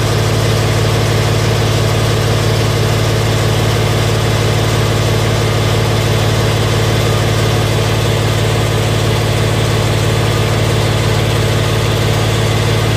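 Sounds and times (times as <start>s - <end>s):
drain jetting machine engine humming: 0.0s - 12.9s.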